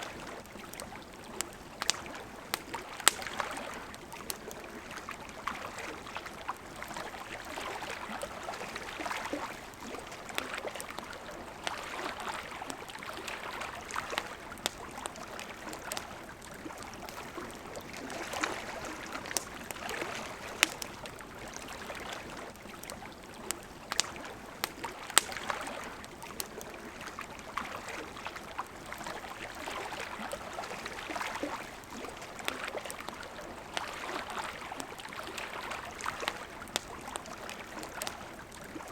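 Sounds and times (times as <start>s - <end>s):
campfire crackling: 0.0s - 38.9s
river water running: 0.0s - 38.9s.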